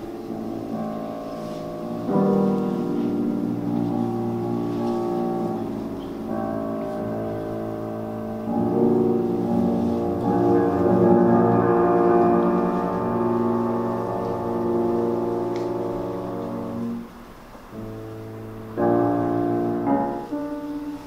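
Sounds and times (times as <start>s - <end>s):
solo piano chords: 0.0s - 21.0s.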